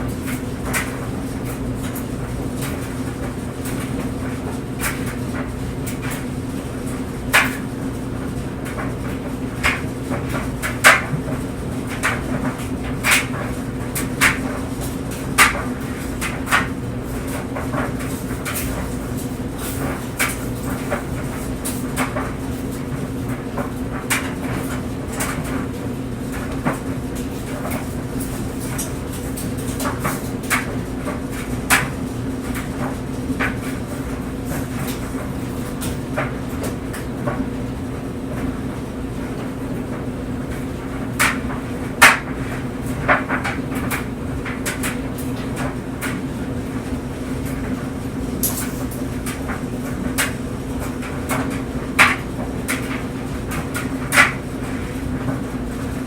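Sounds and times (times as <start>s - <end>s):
clothes dryer humming: 0.0s - 56.0s.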